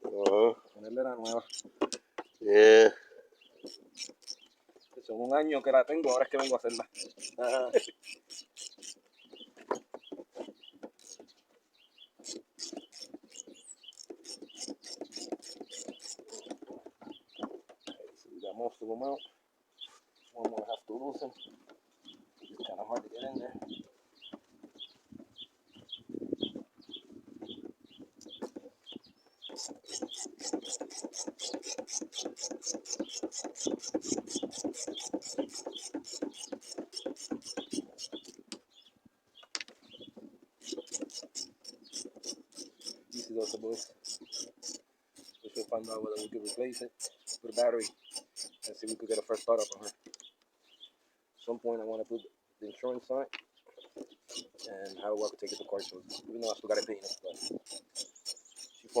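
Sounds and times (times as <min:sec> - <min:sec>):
bird chirping: 0:00.1 - 0:59.0.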